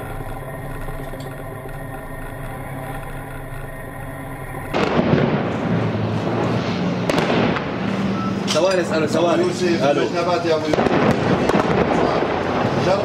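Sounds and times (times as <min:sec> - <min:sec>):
tank engine running: 0:00.0 - 0:13.0.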